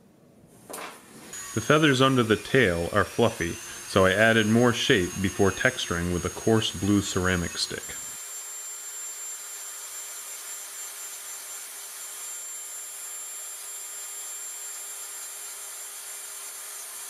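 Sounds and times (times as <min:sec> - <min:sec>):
rotary tool grinding wood: 0:01.3 - 0:17.0.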